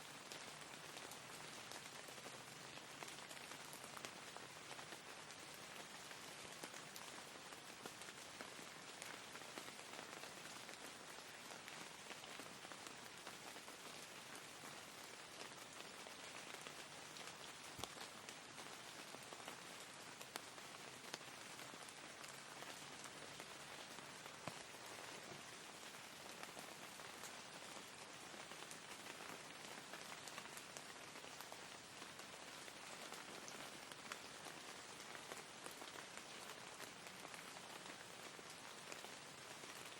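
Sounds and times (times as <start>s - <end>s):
faint steady rain: 0.0s - 39.9s
sharp raindrops ticking: 0.2s - 39.9s.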